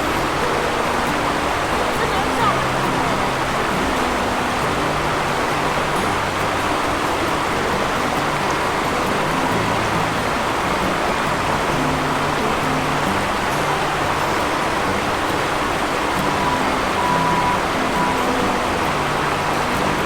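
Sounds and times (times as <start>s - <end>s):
background music low notes: 0.0s - 20.0s
steady rushing hiss: 0.0s - 20.0s.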